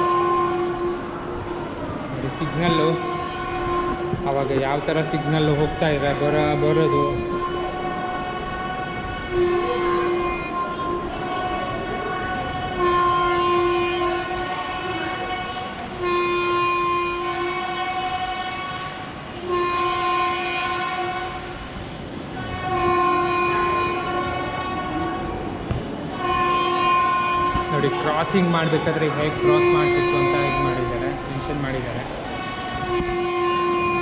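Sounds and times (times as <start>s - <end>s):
horn note: 2.2s - 21.6s, 26.1s - 34.0s.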